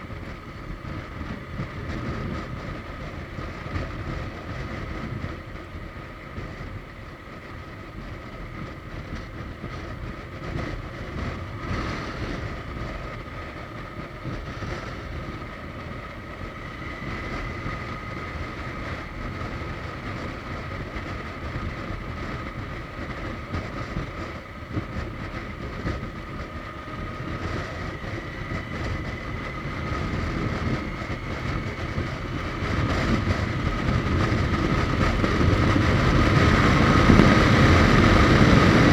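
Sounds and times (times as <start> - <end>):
motorcycle engine whine: 0.0 - 38.9
wind noise while riding: 0.0 - 38.9.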